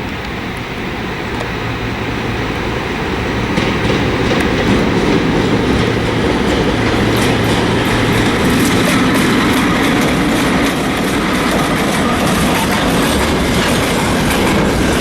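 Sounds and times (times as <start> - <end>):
freight train wheels rumbling: 0.0 - 15.0
wheels clicking over rail joints: 0.0 - 15.0.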